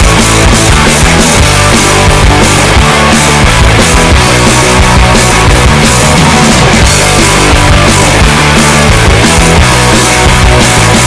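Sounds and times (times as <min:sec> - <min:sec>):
distorted rock music: 0:00.0 - 0:11.0.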